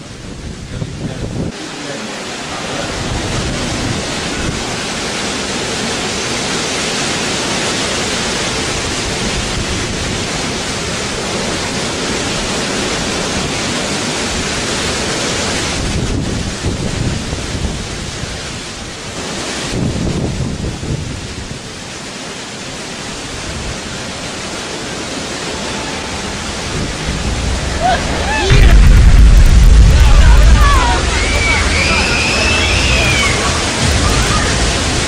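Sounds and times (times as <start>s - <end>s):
gusty wind rumble: 0.0s - 1.6s, 2.8s - 6.6s, 8.2s - 21.7s, 25.5s - 35.0s
heavy rain: 0.0s - 35.0s.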